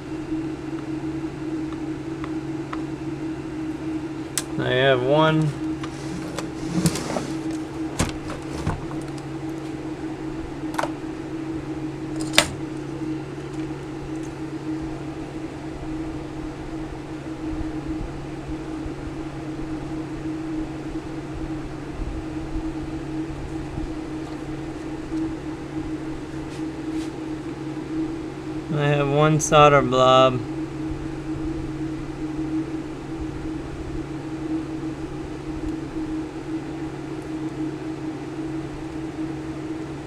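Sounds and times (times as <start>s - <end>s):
small electric fan humming: 0.0s - 40.0s.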